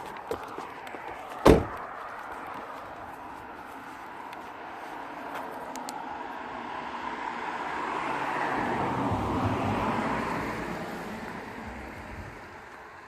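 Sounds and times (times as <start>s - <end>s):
car passing by: 0.5s - 13.0s.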